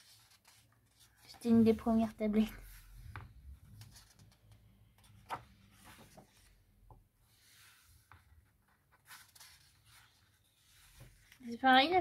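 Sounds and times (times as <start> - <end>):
paper rustling: 0.0 - 6.6, 7.4 - 12.0.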